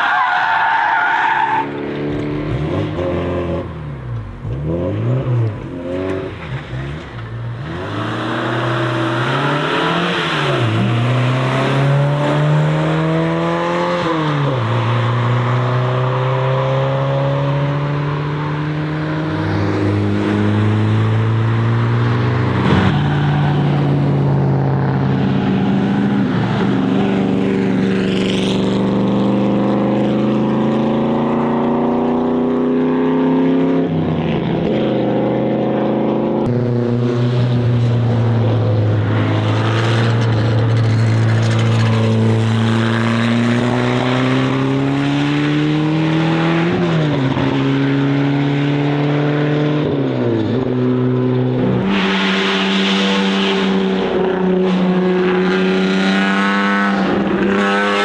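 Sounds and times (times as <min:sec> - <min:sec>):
car engines accelerating: 0:00.0 - 0:58.0.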